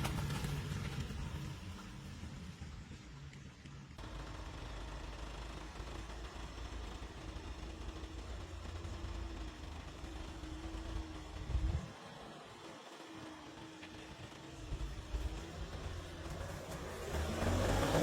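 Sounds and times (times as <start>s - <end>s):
vehicle engine low rumble: 0.0s - 18.0s.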